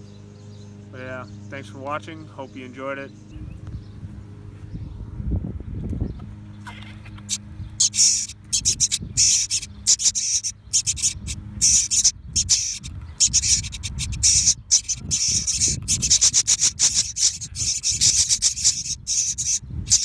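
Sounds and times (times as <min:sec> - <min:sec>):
nestlings begging calls: 0:00.0 - 0:05.1, 0:06.0 - 0:20.0.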